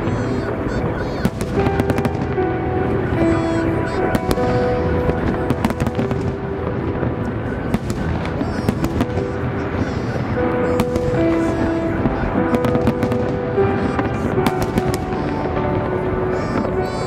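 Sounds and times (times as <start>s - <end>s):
festive music: 0.0s - 17.0s
fireworks bangs and crackles: 0.0s - 17.0s.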